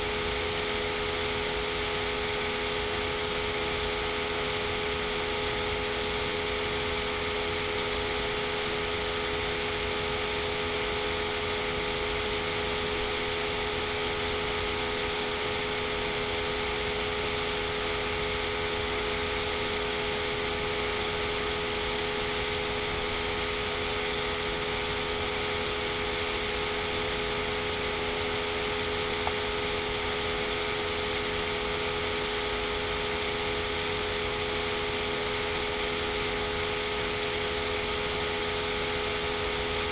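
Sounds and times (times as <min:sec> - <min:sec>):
machine hum and hiss: 0:00.0 - 0:39.9.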